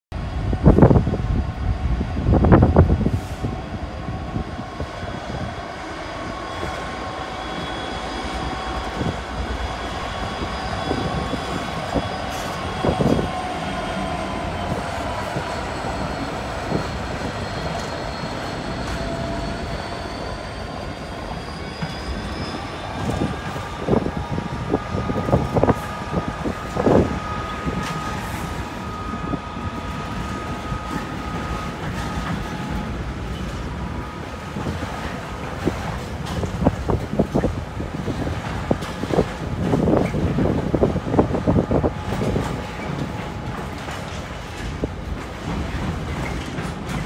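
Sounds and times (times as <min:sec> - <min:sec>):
diesel locomotive engine: 0:00.1 - 0:47.0
faint steady squeal: 0:00.2 - 0:37.5, 0:38.1 - 0:47.0.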